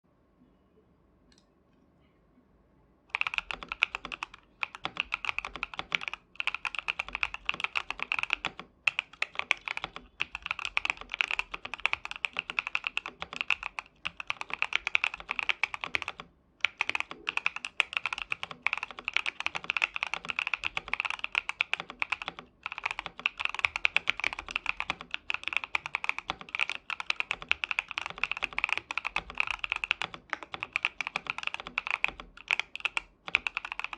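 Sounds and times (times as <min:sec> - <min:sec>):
fast mechanical keyboard typing: 0:03.1 - 0:33.9.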